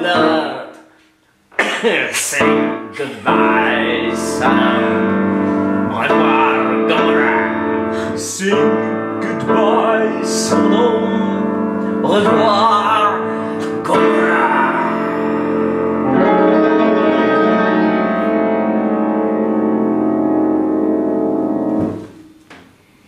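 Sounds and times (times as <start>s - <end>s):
piano chords: 0.0s - 0.8s, 2.3s - 22.5s.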